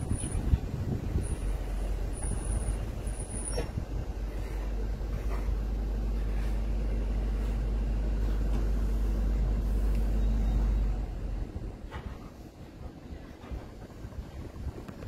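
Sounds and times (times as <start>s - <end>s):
quiet outdoor noise: 0.0s - 15.0s
vehicle engine rumbling: 0.0s - 15.0s.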